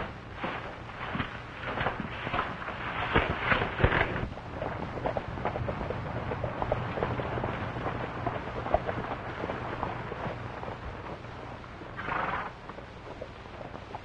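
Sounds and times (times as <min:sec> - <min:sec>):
horses galloping on dirt: 0:00.0 - 0:14.0
low soundtrack hum: 0:00.0 - 0:14.0.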